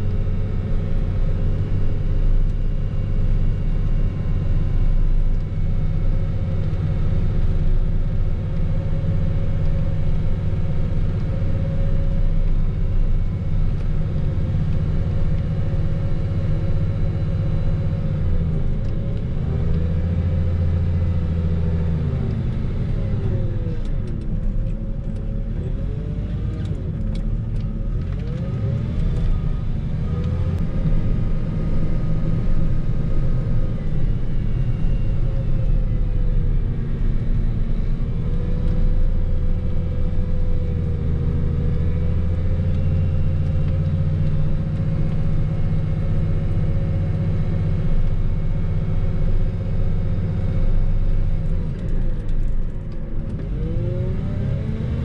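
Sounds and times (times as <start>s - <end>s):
deep rumble: 0.0s - 55.0s
snow plow engine running: 0.0s - 55.0s.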